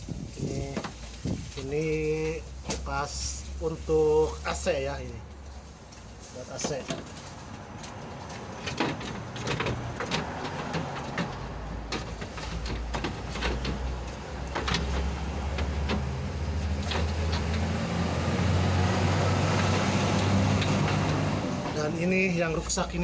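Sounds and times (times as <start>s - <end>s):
engine low hum: 0.0s - 23.0s.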